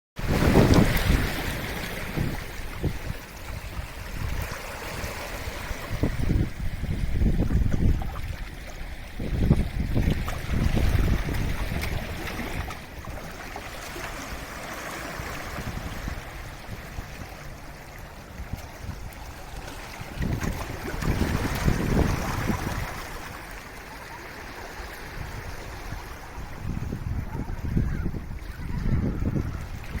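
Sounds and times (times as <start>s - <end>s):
sea waves washing ashore: 0.2s - 30.0s.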